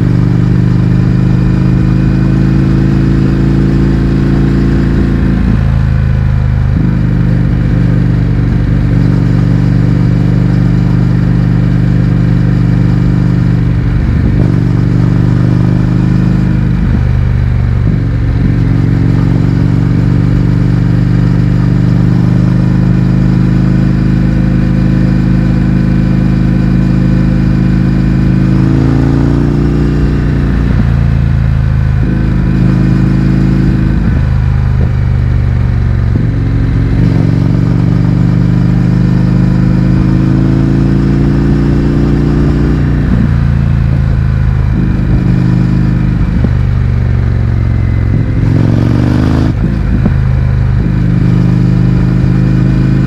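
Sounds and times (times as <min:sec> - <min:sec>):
motorcycle engine shifting gears: 0:00.0 - 0:53.0.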